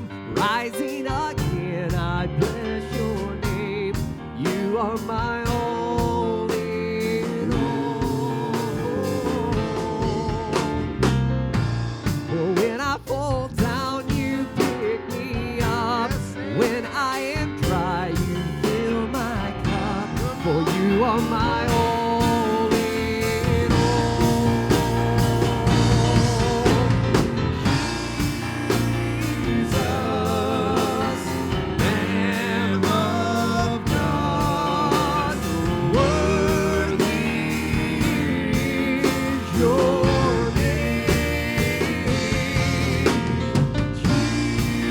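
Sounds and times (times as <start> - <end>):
church praise band playing: 0.0 - 44.9.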